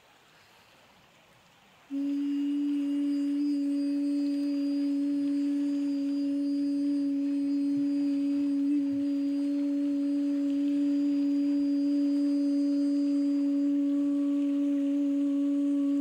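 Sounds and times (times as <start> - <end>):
faint sea noise: 0.0 - 16.0
steady low pure tone: 1.9 - 16.0.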